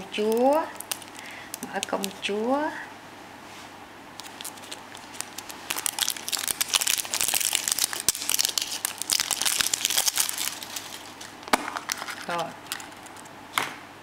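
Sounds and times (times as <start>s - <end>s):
foil wrapper crinkling: 0.0s - 2.3s, 4.2s - 13.3s.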